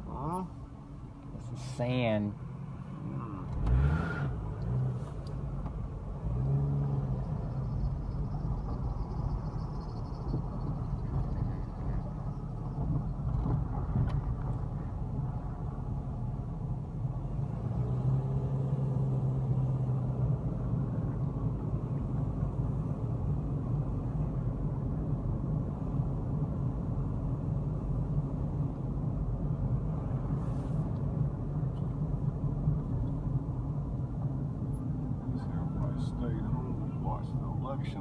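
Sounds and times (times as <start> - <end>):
engine hum: 0.0 - 38.0
vehicle cabin road rumble: 0.0 - 38.0.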